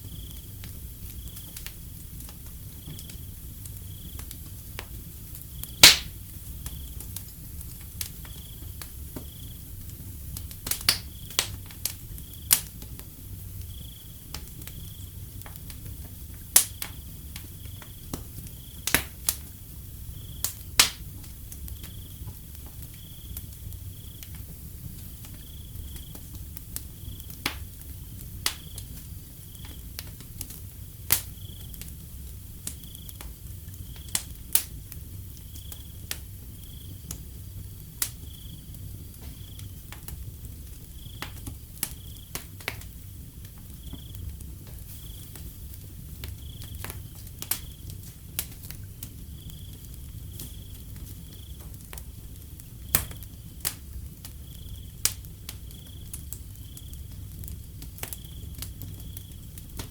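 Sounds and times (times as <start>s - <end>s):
cricket chirping: 0.0s - 4.6s, 5.3s - 10.0s, 10.8s - 48.0s, 48.6s - 59.9s
wood fire crackling and popping: 0.0s - 59.9s.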